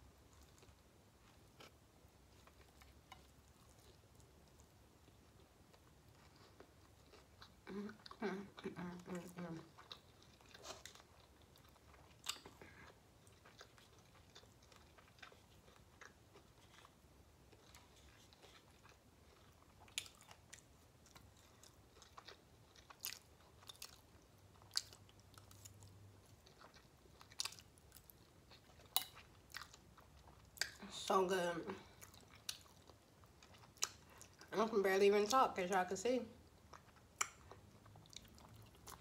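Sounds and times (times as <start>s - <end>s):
close chewing: 0.2s - 31.1s, 31.7s - 34.6s, 36.4s - 39.0s.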